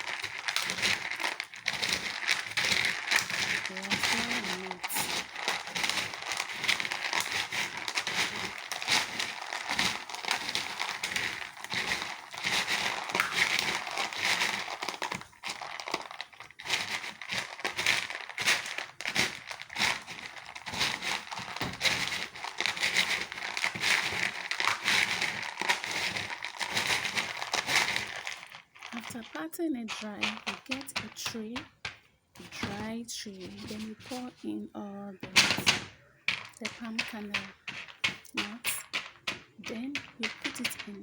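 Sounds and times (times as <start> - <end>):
napkin crinkling and rustling: 0.0 - 41.0.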